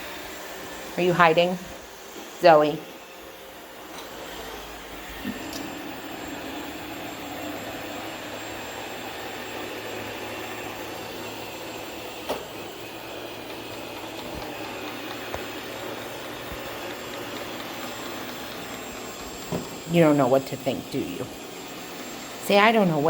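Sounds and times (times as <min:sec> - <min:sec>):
robot vacuum whirring: 0:00.1 - 0:23.0.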